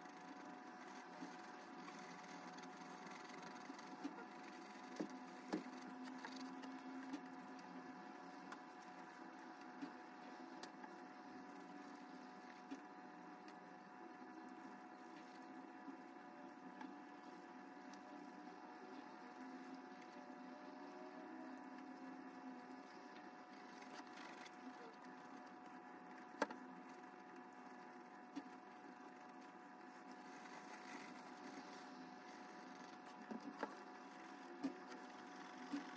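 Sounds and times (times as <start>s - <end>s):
faint room hum: 0.0s - 35.9s.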